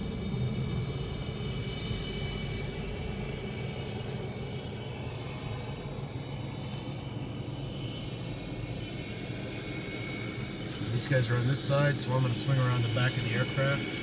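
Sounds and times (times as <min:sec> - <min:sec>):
muffled jet engine idling: 0:00.0 - 0:14.0.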